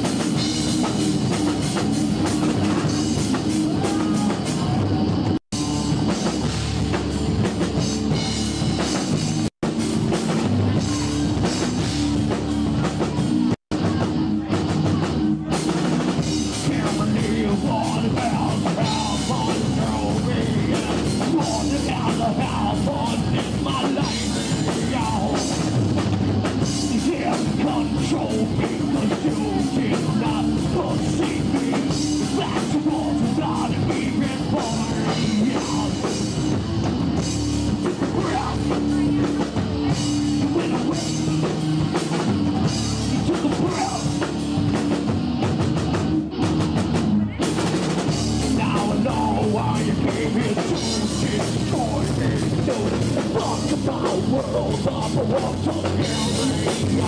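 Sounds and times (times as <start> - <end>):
bass guitar: 0.0 - 57.0
distorted electric guitar: 0.0 - 57.0
drum kit: 0.0 - 57.0.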